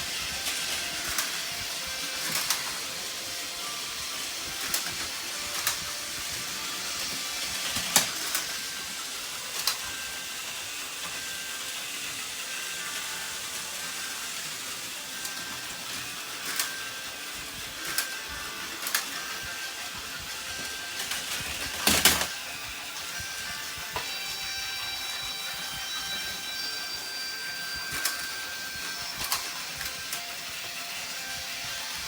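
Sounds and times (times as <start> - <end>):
toy train motors whirring: 0.0 - 32.0.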